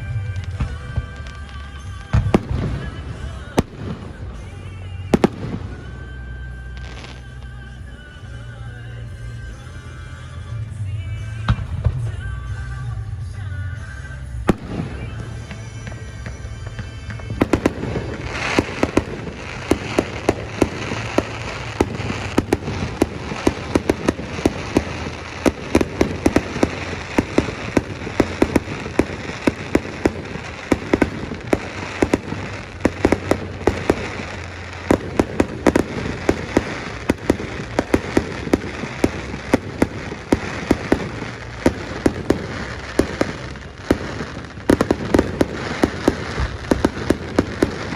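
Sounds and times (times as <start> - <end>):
fireworks popping and crackling: 0.0 - 9.1, 13.7 - 47.9
faint music: 0.0 - 47.9.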